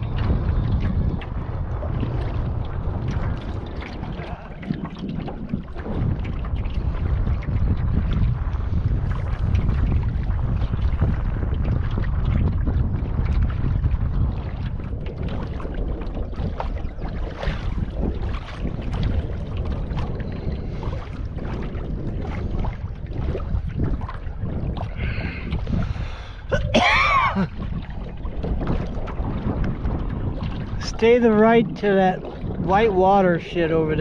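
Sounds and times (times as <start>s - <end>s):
water sounds from kayak: 0.0s - 34.0s
wind buffeting microphone: 0.0s - 34.0s.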